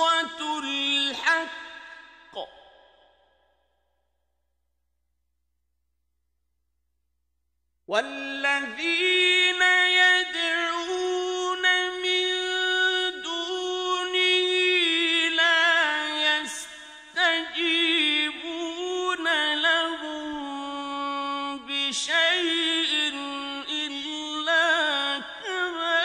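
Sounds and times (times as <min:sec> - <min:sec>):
man chanting melodically: 0:00.0 - 0:02.8, 0:07.9 - 0:26.0.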